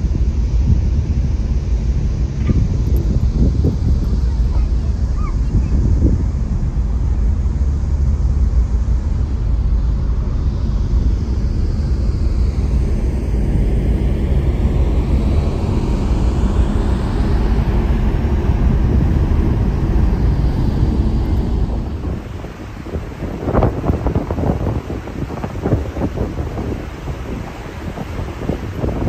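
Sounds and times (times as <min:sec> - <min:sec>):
ferry diesel engines rumbling: 0:00.0 - 0:29.0
wind buffeting microphone: 0:00.0 - 0:29.0.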